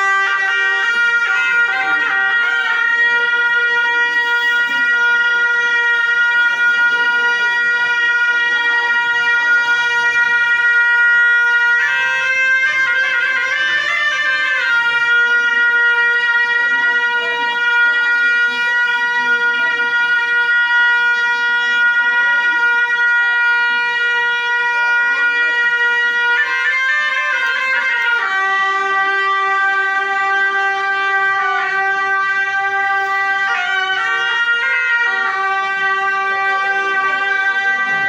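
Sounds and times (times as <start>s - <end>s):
wind instrument playing: 0.0s - 38.0s.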